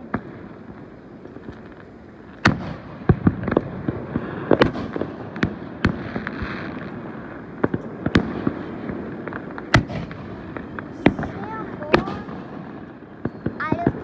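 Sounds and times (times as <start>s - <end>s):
fireworks bangs: 0.0s - 14.0s
fireworks crackle: 0.0s - 14.0s
fireworks hiss: 0.0s - 14.0s.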